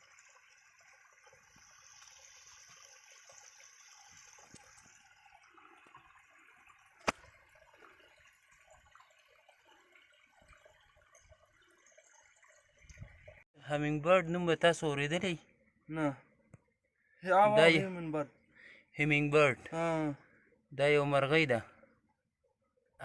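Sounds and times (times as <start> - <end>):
faint trickling water: 0.0 - 23.0.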